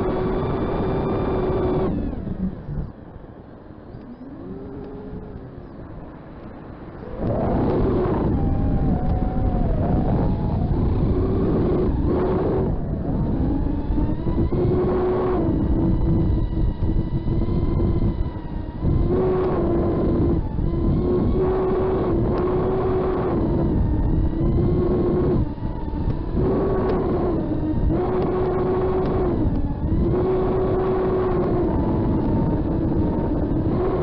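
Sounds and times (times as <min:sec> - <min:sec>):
drone motors and propellers whining: 0:00.0 - 0:34.0
steady low rumble: 0:00.0 - 0:34.0.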